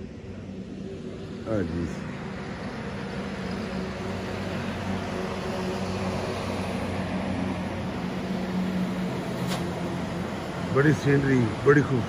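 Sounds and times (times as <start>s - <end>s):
traffic road noise: 0.0s - 12.0s.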